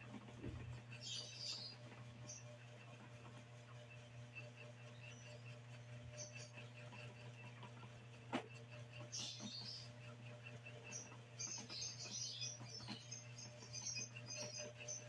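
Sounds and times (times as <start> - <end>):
small birds twittering: 0.4 - 2.8, 3.9 - 7.9, 8.5 - 15.0.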